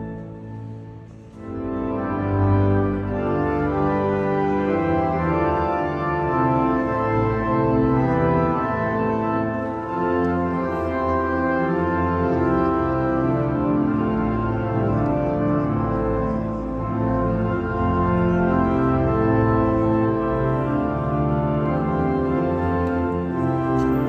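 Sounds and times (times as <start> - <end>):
pipe organ playing hymn chords: 0.0 - 24.0.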